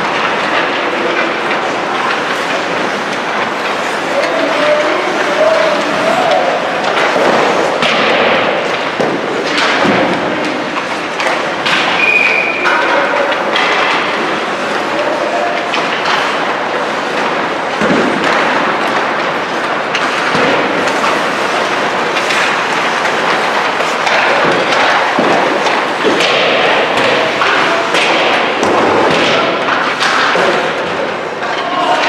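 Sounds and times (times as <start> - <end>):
pucks and sticks knocking boards: 0.0 - 32.0
skates on ice: 0.0 - 32.0.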